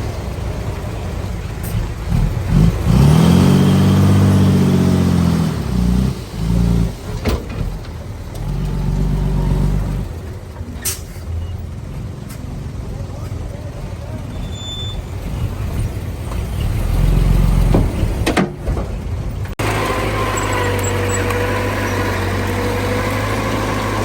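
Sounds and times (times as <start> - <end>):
diesel engine revving: 0.0 - 11.9, 13.8 - 24.0.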